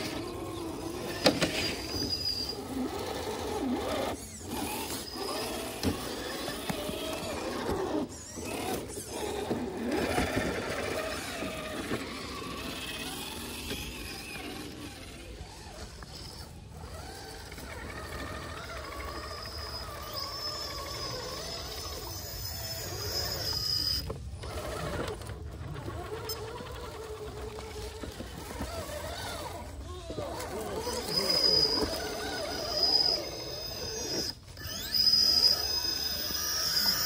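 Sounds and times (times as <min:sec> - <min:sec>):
small electric motors whining: 0:00.0 - 0:37.0.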